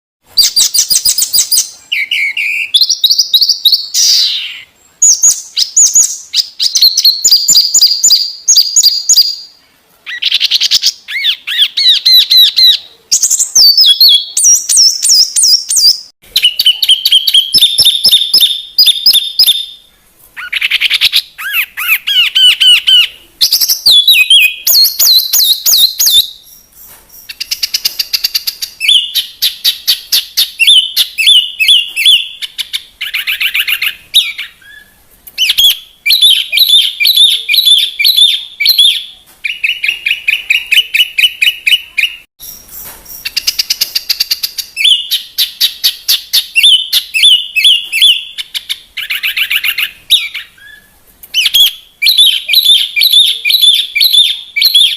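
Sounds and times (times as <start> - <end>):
bird song with trills and chirps: 0.3 - 54.9.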